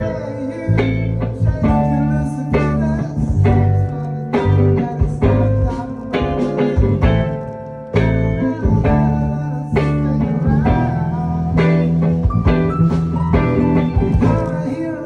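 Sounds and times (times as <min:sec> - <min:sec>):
deep bass line: 0:00.0 - 0:15.0
guitar chords strummed: 0:00.0 - 0:15.0.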